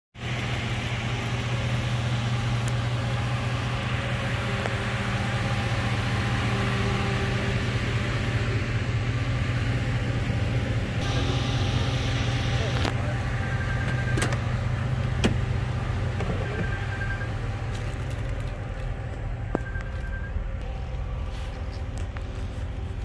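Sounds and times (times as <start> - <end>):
engine idling: 0.2 - 23.0.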